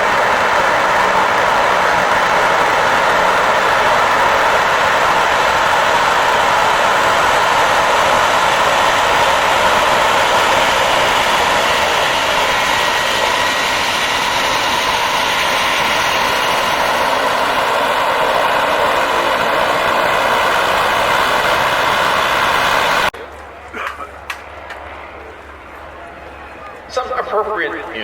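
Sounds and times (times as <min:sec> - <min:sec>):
turboprop engines running: 0:00.0 - 0:28.0.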